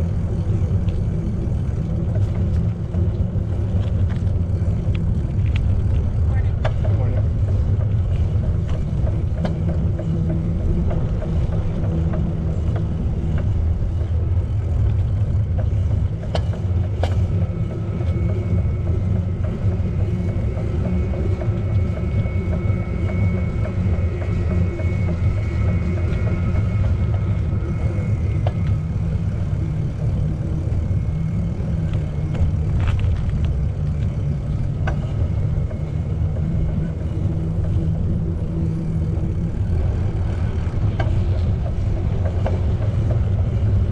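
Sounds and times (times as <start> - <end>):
moving bicycle rumbling: 0.0 - 43.9.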